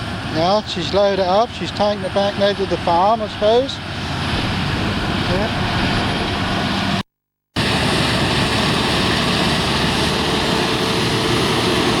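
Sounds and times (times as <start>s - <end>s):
farm machinery engine running: 0.0s - 7.0s, 7.6s - 12.0s.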